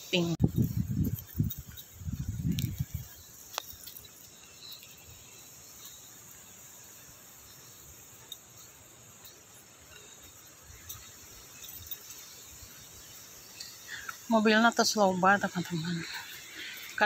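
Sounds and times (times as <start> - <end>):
faint high-pitched hiss: 0.0 - 17.0.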